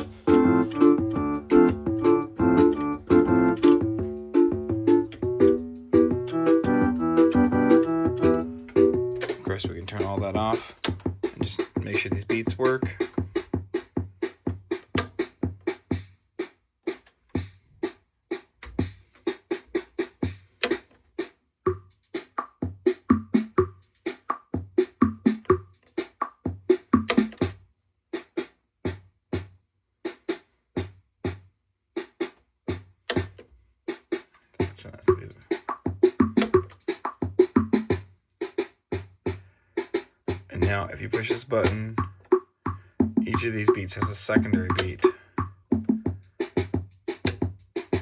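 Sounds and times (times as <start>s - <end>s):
drum machine beats: 0.0s - 27.6s, 28.2s - 48.0s.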